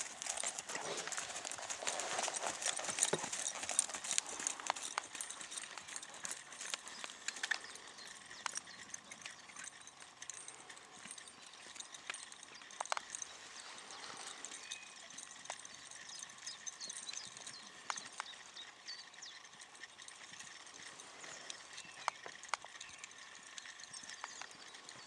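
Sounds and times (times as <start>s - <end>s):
horse hoofbeats on sand: 0.0s - 25.0s.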